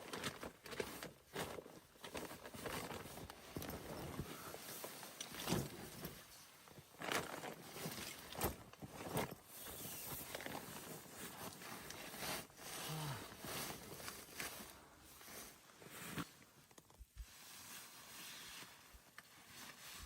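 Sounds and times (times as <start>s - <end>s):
knocks crunches and scrapes: 0.0s - 17.7s.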